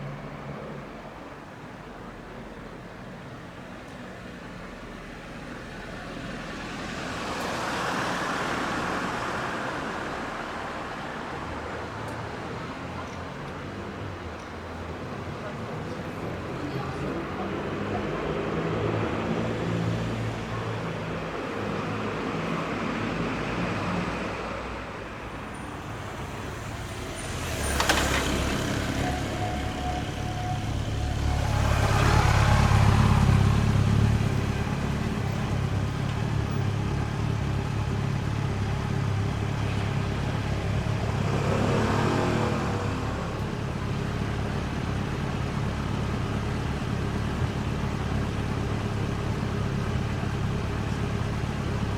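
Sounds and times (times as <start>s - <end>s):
vehicles driving past: 0.0s - 51.9s.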